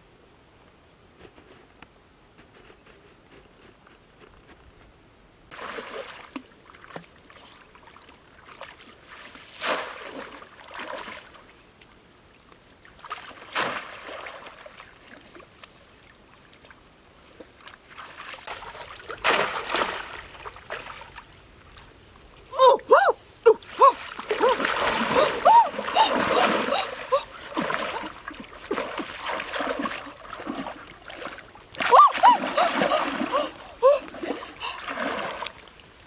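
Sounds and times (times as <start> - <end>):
water splashing and sloshing: 5.5 - 36.0.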